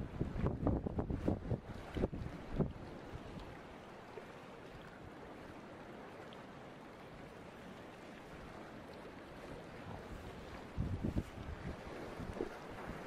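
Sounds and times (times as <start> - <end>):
choppy sea water: 0.0 - 13.0
wind: 0.0 - 13.0.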